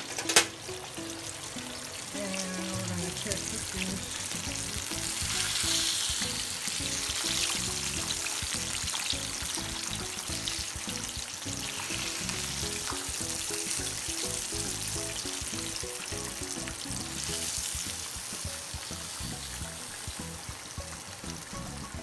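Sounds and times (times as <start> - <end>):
background music: 0.0 - 22.0
fish deep-frying in oil: 0.0 - 22.0.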